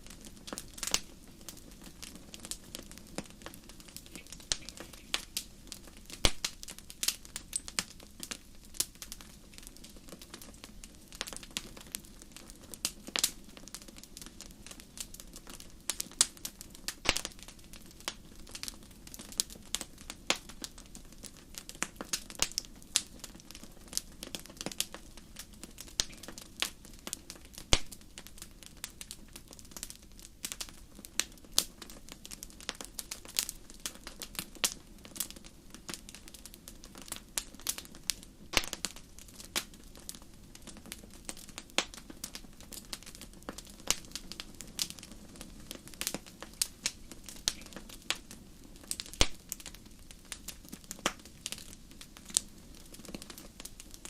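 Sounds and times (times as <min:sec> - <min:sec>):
low noise of flames: 0:00.0 - 0:54.0
wood fire crackling: 0:00.0 - 0:54.0.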